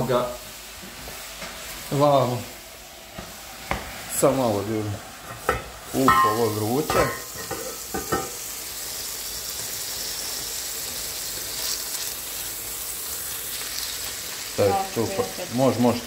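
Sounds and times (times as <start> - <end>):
steak sizzling in a pan: 0.0 - 16.0.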